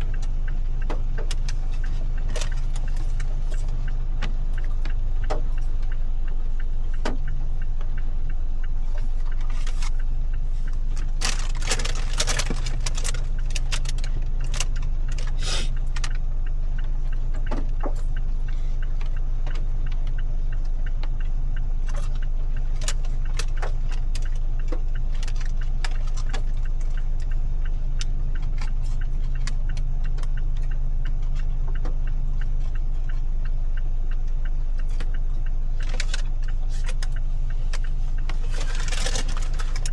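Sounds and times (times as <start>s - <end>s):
car engine and road hum: 0.0s - 39.9s.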